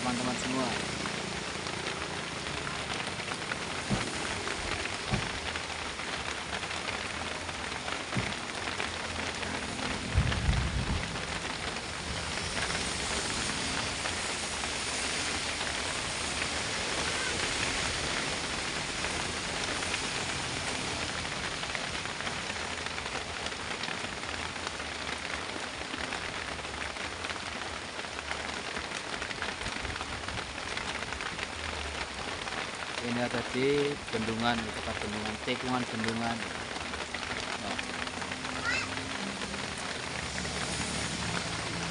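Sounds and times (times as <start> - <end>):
heavy rain on truck: 0.0 - 41.9.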